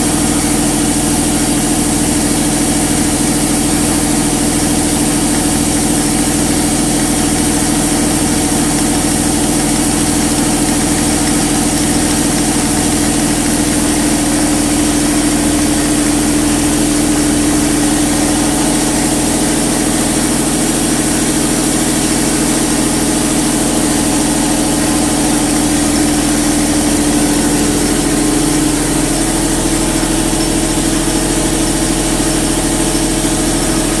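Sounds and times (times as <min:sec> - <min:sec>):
air compressors running: 0:00.0 - 0:34.0
model steam engine running: 0:00.0 - 0:34.0.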